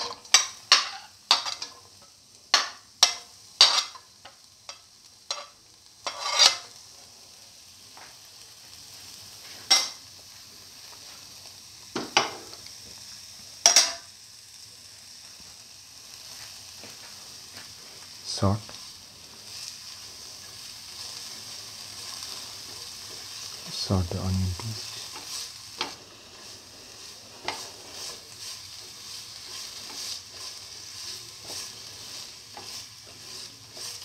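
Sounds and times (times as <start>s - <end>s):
onions frying in oil: 0.0s - 34.0s.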